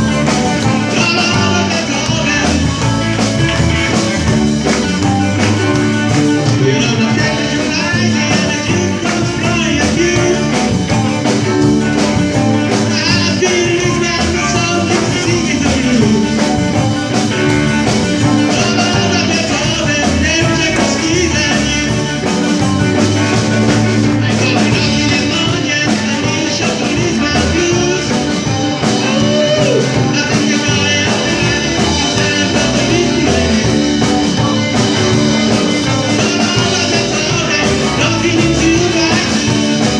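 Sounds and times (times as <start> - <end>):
drums: 0.0 - 39.9
electric guitars: 0.0 - 39.9
keyboard: 0.0 - 39.9
person singing: 0.0 - 39.9.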